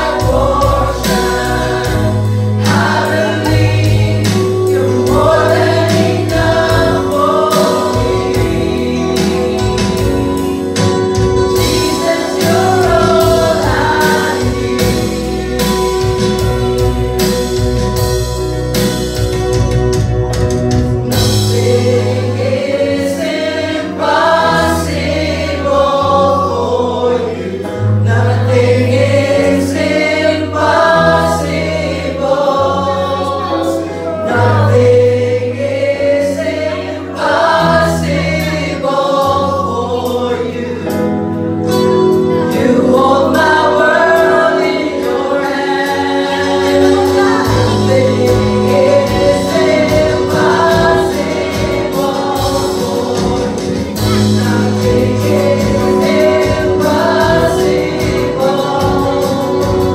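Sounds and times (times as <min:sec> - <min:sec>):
group singing: 0:00.0 - 0:19.6, 0:20.4 - 0:59.9
bass notes: 0:00.0 - 0:59.9.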